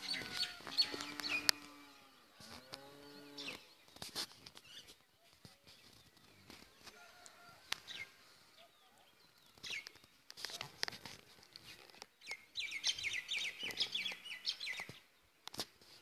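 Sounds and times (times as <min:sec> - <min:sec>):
small bird singing: 0:00.0 - 0:10.9, 0:11.5 - 0:15.4.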